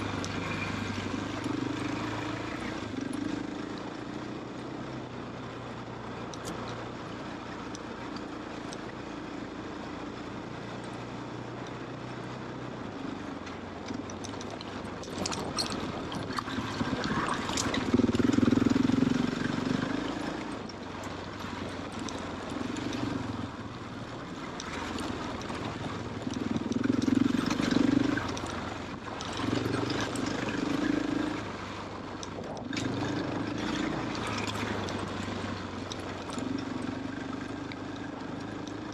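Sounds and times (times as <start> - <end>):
motorcycle engine revving: 0.0 - 10.5, 12.3 - 38.9.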